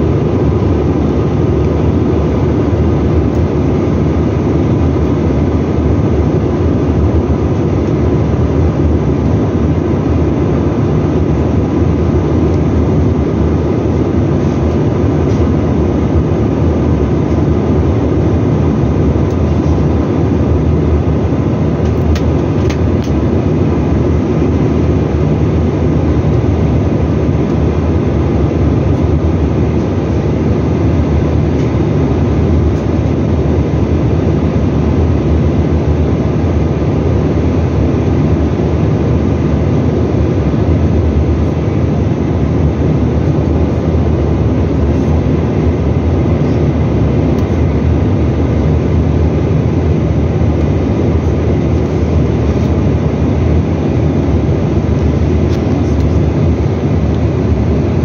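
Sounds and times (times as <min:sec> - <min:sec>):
airliner cabin airflow and engines: 0:00.0 - 0:58.0.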